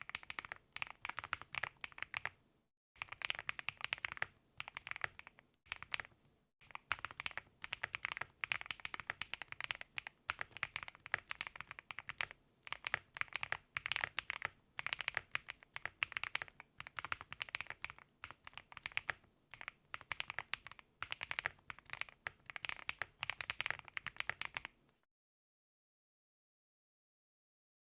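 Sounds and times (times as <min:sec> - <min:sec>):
fast typing on mechanical keyboard: 0:00.0 - 0:02.4, 0:03.0 - 0:24.8.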